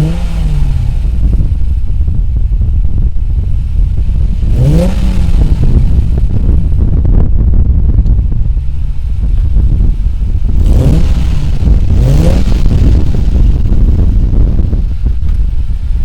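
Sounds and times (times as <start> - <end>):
car exhaust idling and revving: 0.0 - 16.0.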